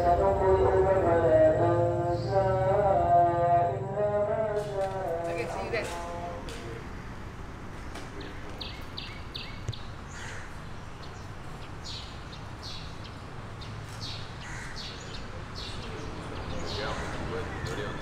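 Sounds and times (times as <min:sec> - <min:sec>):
birds chirping: 0:00.0 - 0:03.3, 0:05.0 - 0:18.0.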